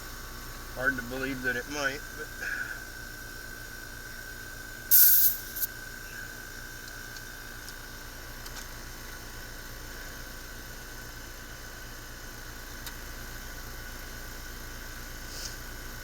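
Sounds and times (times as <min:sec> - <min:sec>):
heat pump fan and compressor: 0:00.0 - 0:16.0.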